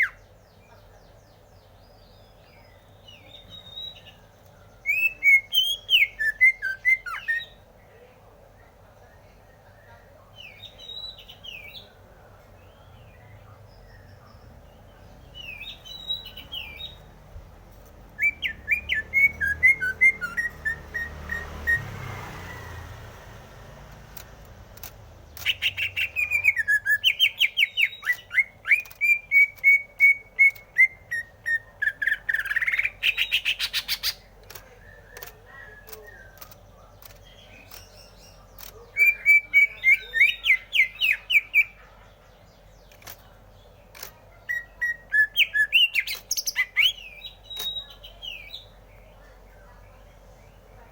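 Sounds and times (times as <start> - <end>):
bird singing trilling phrases: 0.0 - 23.1, 24.8 - 50.9.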